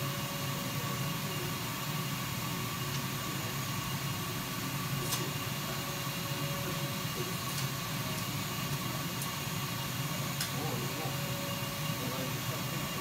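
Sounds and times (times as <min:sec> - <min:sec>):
laser cutter fan hum and hiss: 0:00.0 - 0:13.0.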